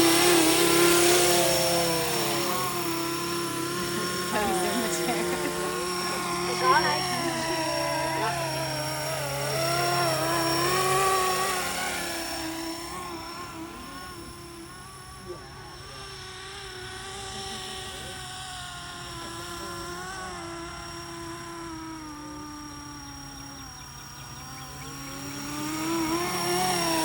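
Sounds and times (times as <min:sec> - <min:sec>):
rc helicopter rotor hum and whine: 0:00.0 - 0:27.0.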